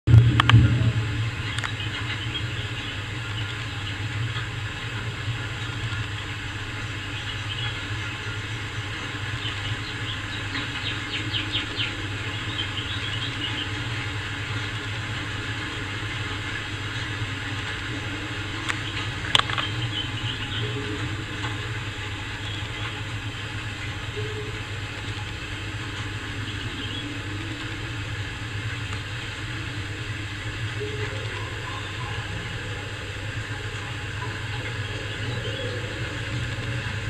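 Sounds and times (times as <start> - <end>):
low mechanical hum: 0.1 - 37.0.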